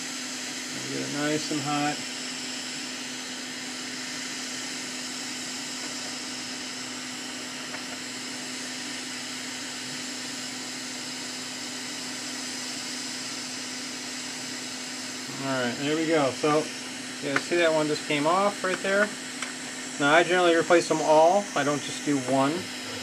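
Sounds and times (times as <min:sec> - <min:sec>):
hot air station blowing: 0:00.0 - 0:23.0.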